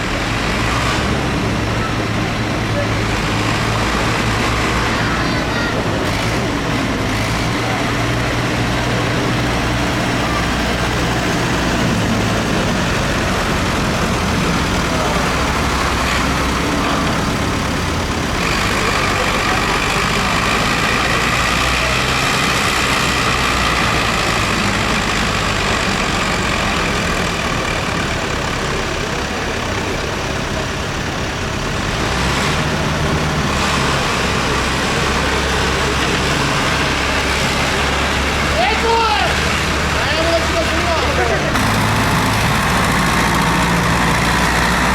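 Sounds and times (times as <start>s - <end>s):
tractor engines running: 0.0s - 44.9s.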